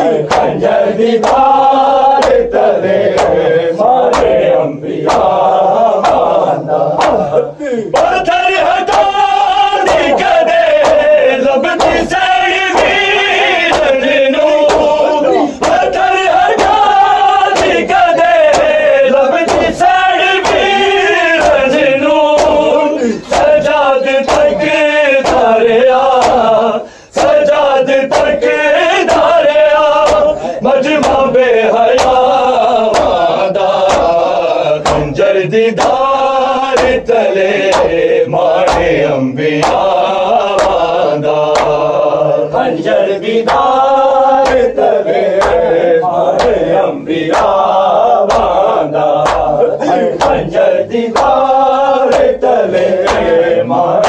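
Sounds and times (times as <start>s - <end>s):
men chanting a lament: 0.0s - 54.0s
rhythmic chest-beating strikes: 0.0s - 54.0s.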